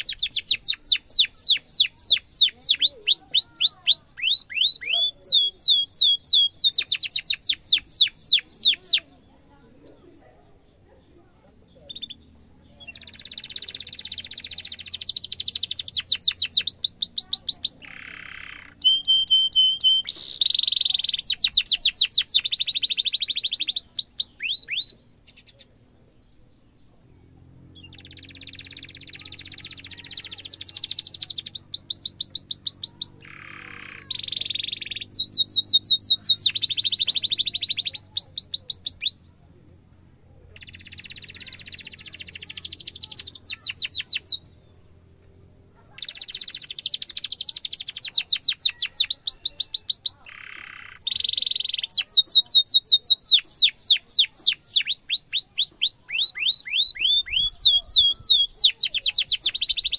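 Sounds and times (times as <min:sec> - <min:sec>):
canary singing trills: 0:00.0 - 0:27.0, 0:27.6 - 0:39.4, 0:40.4 - 0:59.9.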